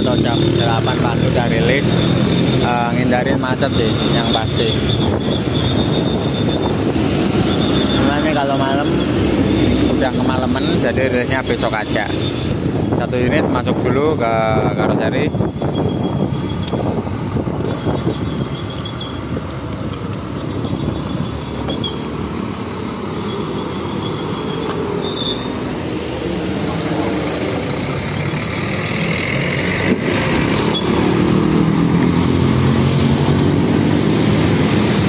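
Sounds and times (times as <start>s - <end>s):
bus diesel engine running: 0.0s - 35.0s
road and tyre noise: 0.0s - 35.0s.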